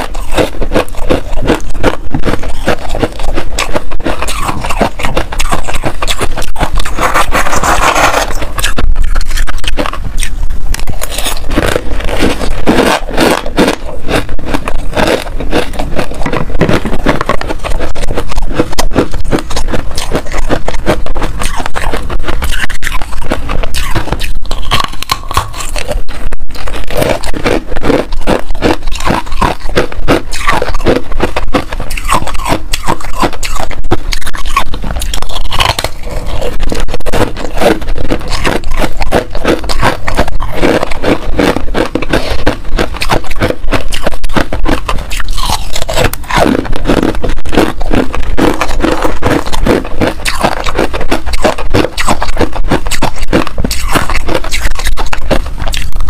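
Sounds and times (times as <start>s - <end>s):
chewing ice crunches: 0.0s - 56.0s.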